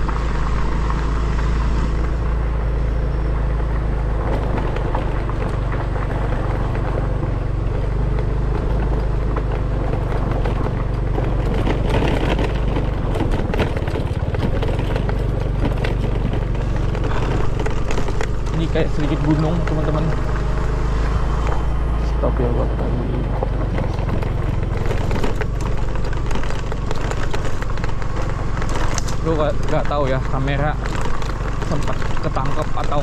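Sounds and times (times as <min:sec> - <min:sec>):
motorcycle engine running: 0:00.0 - 0:33.0
tyre and road noise: 0:00.0 - 0:33.0
bike clicks and knocks: 0:03.7 - 0:20.8, 0:23.2 - 0:33.0.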